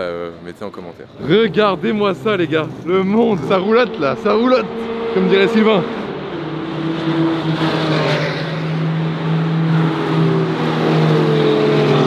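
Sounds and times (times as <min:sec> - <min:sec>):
race cars driving: 0:00.0 - 0:12.0
car passing: 0:00.6 - 0:12.0.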